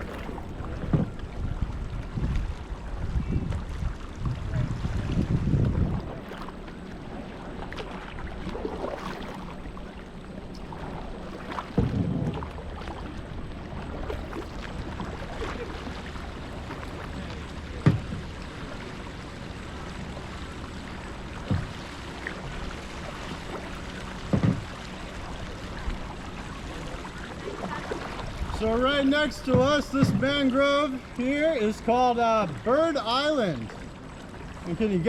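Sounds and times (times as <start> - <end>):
paddle strokes splashing: 0.0 - 35.0
water lapping: 0.0 - 35.0.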